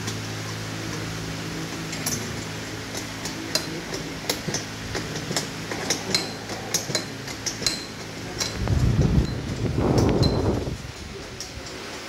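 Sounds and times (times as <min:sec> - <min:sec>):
low fan hum: 0:00.0 - 0:12.0
spanner clinking on bolts: 0:01.7 - 0:12.0.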